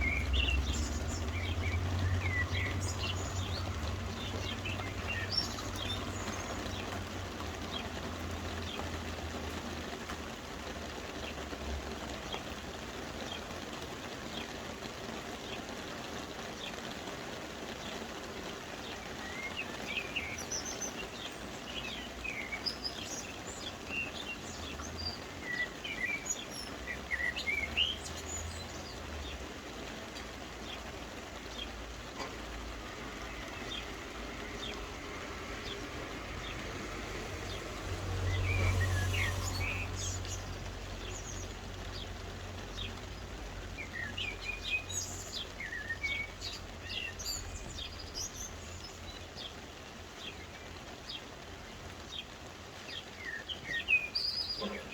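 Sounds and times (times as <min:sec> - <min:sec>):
small birds chirping: 0:00.0 - 0:54.9
soft rain falling: 0:00.0 - 0:54.9.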